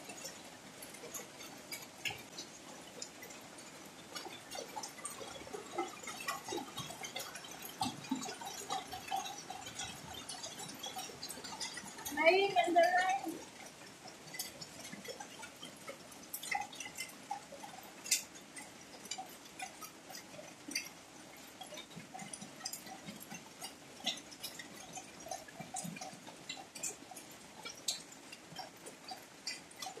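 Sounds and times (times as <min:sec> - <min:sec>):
raindrops splashing close by: 0:00.0 - 0:30.0.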